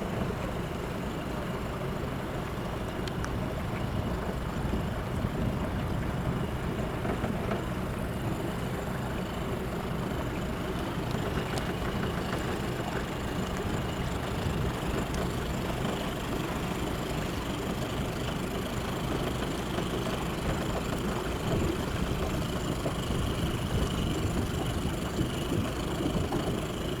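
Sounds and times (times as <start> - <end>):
ship diesel engine droning: 0.0 - 27.0.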